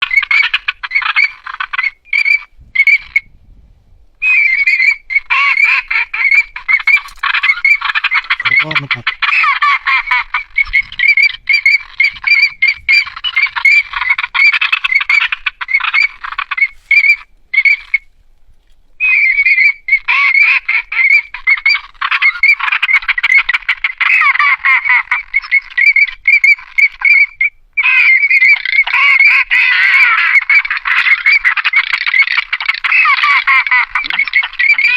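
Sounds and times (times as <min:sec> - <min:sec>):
chorus of high chirping animal calls: 0:00.0 - 0:03.3, 0:04.2 - 0:18.1, 0:19.0 - 0:34.9.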